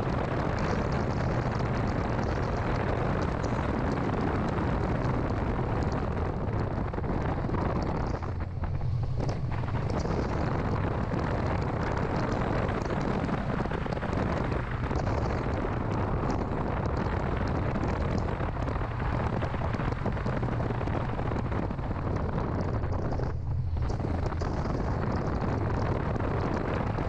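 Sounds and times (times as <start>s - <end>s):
car engine drone: 0.0s - 27.0s
road and wind noise: 0.0s - 27.0s.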